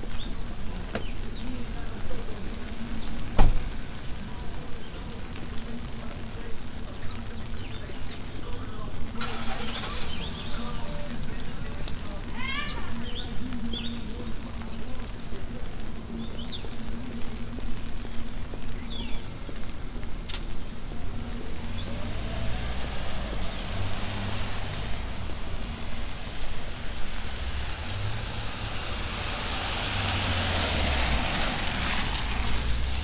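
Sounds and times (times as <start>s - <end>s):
tyres hissing on wet street: 0.0s - 33.0s.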